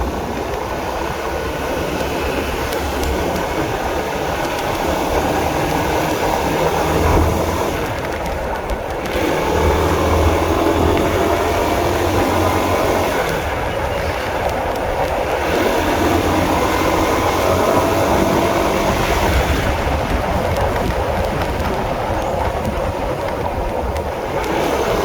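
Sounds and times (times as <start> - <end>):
motorcycle engine running: 0.0 - 25.0
road and wind noise: 0.0 - 25.0.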